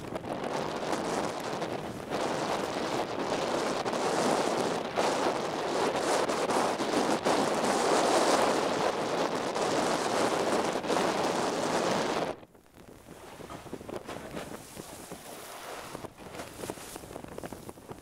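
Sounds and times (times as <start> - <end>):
sea washing against boat: 0.0 - 18.0
wind buffeting microphone: 0.0 - 18.0.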